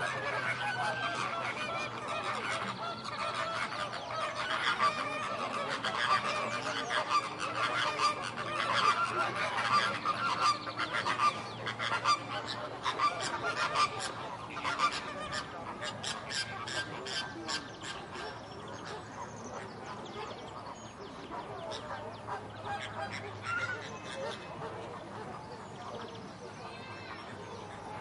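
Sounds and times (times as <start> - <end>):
flock of flamingos honking: 0.0 - 28.0.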